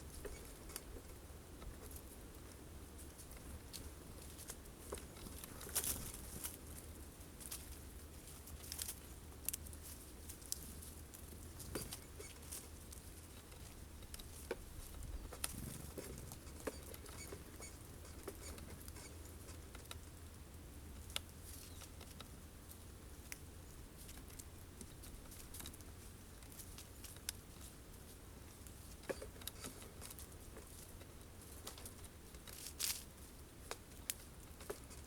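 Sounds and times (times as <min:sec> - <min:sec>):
birds pecking seeds: 0:00.0 - 0:35.0.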